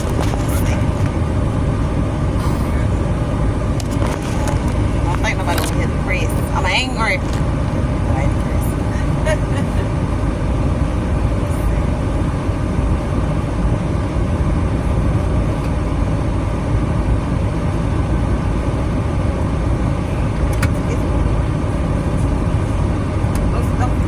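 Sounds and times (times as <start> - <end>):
vehicle road and engine rumble: 0.0 - 24.0.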